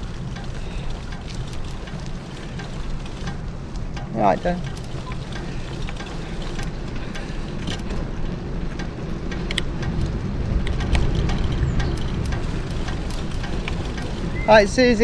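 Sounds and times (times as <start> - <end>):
bicycle clicks and rattles: 0.0 - 15.0
tyres rumbling on road: 0.0 - 15.0.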